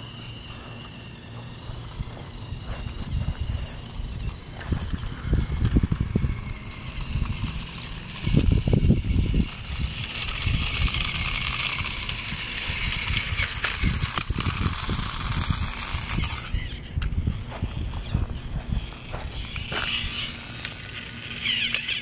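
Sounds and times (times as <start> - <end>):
toy train motor whirring: 0.0 - 22.0
wind rumbling on microphone: 1.5 - 20.6.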